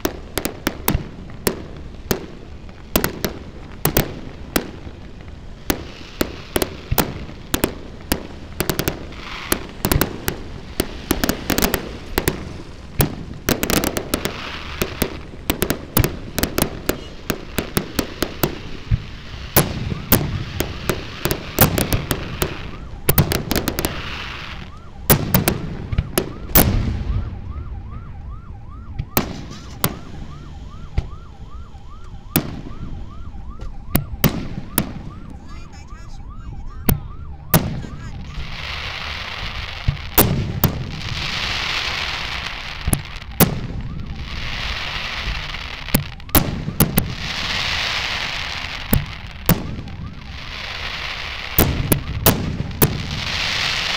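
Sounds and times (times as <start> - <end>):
fireworks bursting with crackle: 0.0 - 53.9
siren-like rising and falling tone: 8.5 - 53.9.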